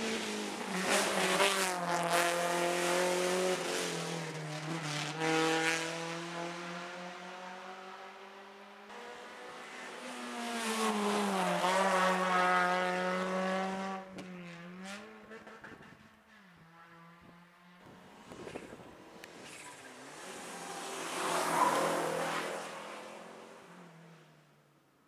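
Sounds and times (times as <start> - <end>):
rally car engine: 0.0 - 24.3.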